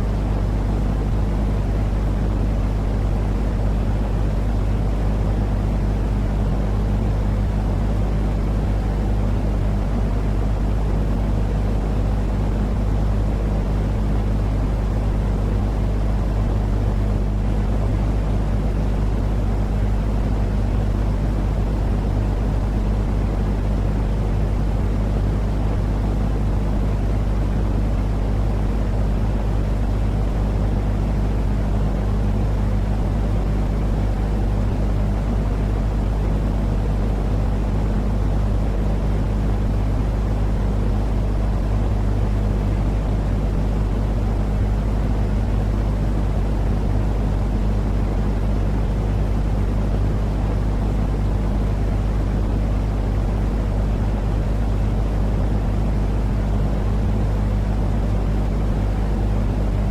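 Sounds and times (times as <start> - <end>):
motor-like hum: 0.0 - 59.9.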